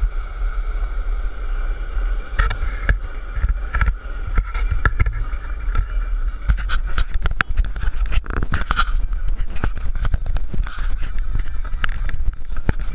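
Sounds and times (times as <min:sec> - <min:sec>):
longboard wheels rumbling on road: 0:00.0 - 0:12.9.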